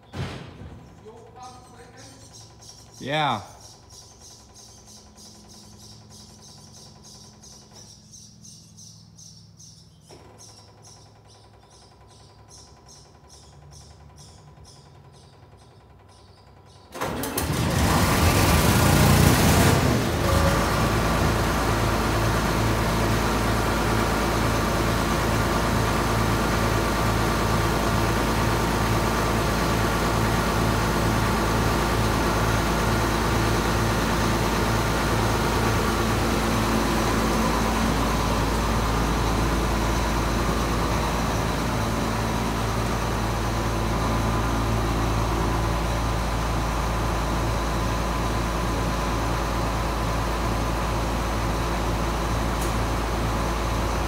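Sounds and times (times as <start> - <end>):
diesel engine idling: 0.8 - 54.0.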